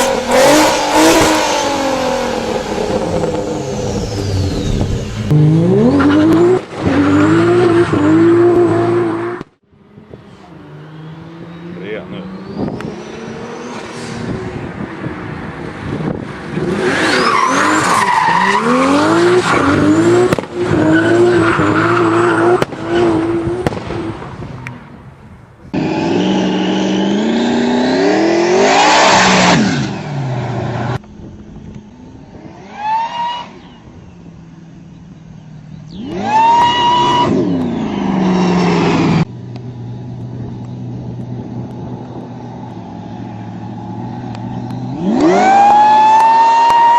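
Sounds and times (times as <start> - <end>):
car engine revving with whine: 0.0 - 24.9, 25.7 - 46.9.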